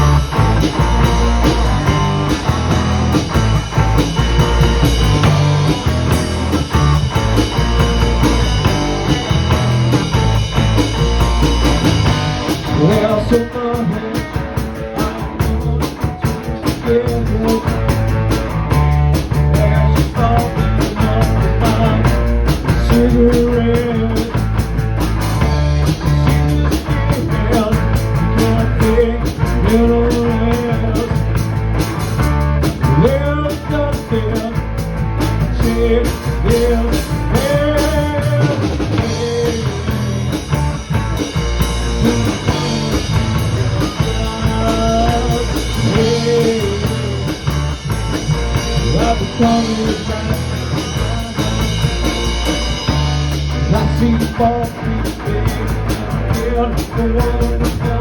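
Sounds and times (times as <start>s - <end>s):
bass guitar: 0.0s - 58.0s
drum kit beat: 0.0s - 58.0s
pitch-bending lead guitar line: 0.0s - 58.0s.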